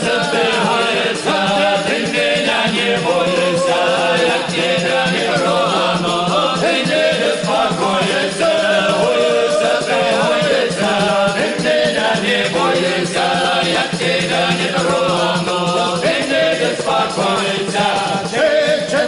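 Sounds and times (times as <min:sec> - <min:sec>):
choir singing a folk song: 0:00.0 - 0:19.0.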